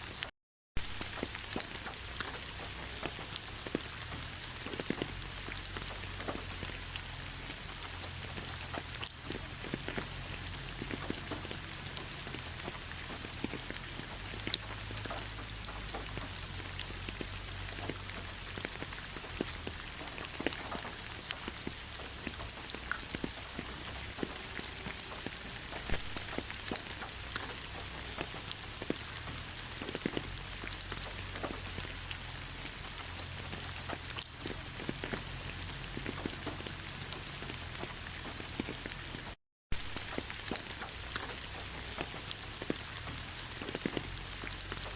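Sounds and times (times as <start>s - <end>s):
rain pattering on leaves: 0.0s - 44.9s.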